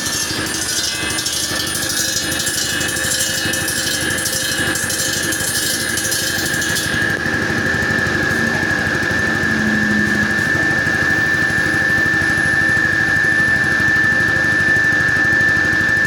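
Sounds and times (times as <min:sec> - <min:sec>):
concrete cutting saw engine running: 0:00.0 - 0:16.0
high whine: 0:00.0 - 0:16.0.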